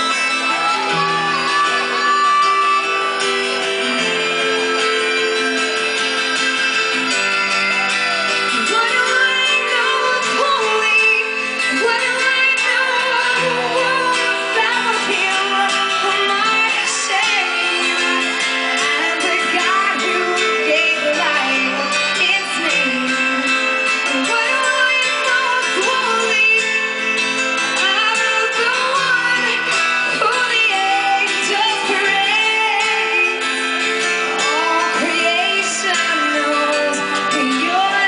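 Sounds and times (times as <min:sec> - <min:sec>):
woman singing: 0:00.0 - 0:05.4, 0:07.8 - 0:38.0
band playing guitar and drums: 0:00.0 - 0:38.0.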